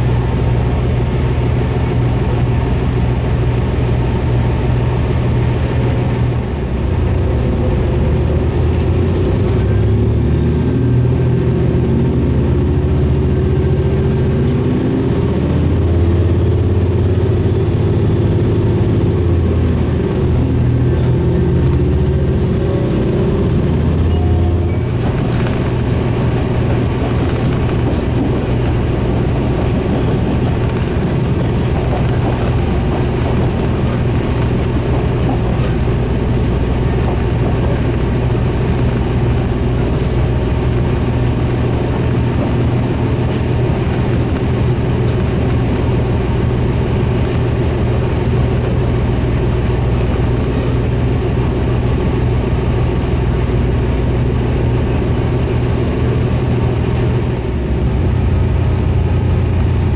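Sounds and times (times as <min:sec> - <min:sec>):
diesel engine low drone: 0:00.0 - 0:59.9
train rattling on rails: 0:00.0 - 0:59.9.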